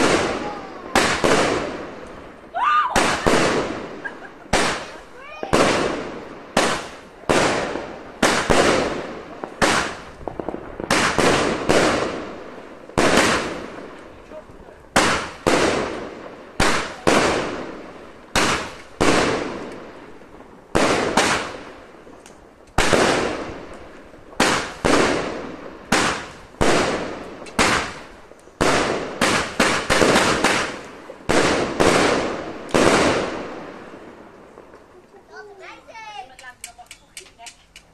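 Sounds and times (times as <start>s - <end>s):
fireworks bangs: 0.0s - 37.9s.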